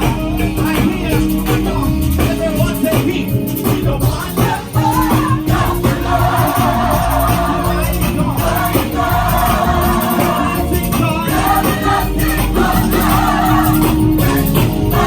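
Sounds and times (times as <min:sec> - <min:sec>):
gospel choir singing: 0:00.0 - 0:15.0
live band with drums bass keyboard: 0:00.0 - 0:15.0.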